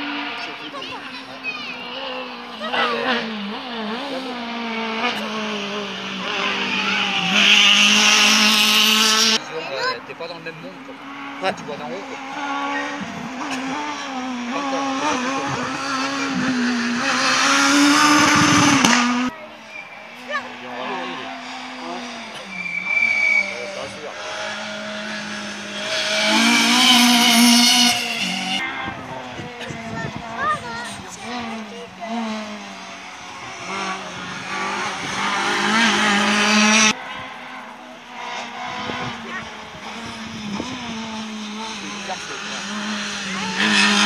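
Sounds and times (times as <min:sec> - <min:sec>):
rally car engine revving: 0:00.0 - 0:44.0.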